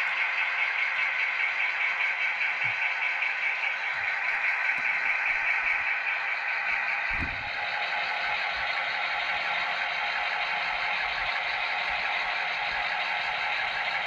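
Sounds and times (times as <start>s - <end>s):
model train running on track: 0.0s - 14.0s.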